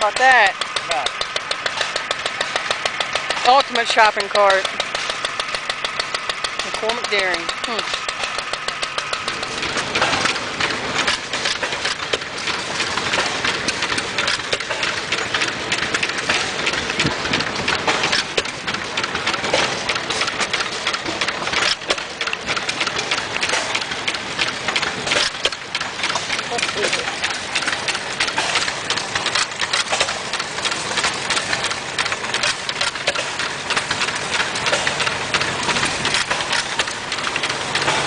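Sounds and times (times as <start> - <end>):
small gas engines running: 0.0 - 38.0.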